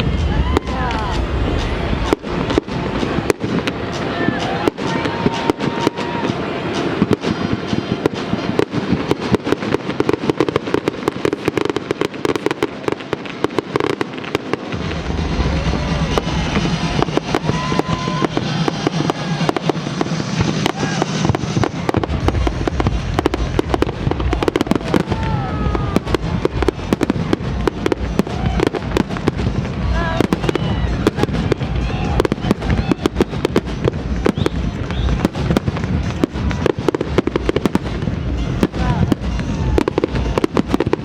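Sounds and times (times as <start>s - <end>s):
deep fireworks booms: 0.0s - 41.0s
fireworks bangs and crackles: 0.0s - 41.0s.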